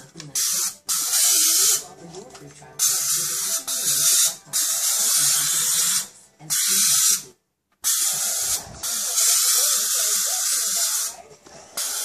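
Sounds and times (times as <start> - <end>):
aerosol can spraying: 0.4 - 1.9, 2.8 - 11.2.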